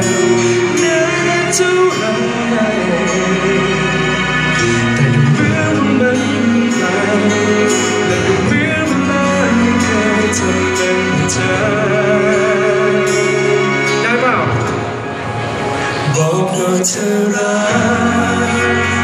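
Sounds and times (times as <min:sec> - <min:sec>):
man singing: 0:00.0 - 0:14.8, 0:16.0 - 0:19.0
pop ballad backing music with guitar: 0:00.0 - 0:19.0.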